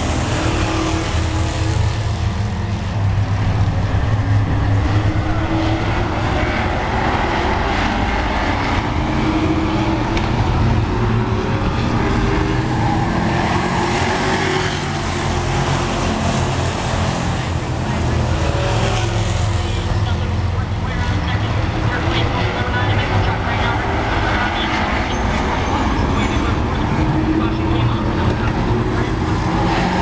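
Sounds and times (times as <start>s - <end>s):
race truck engines racing: 0.0s - 30.0s.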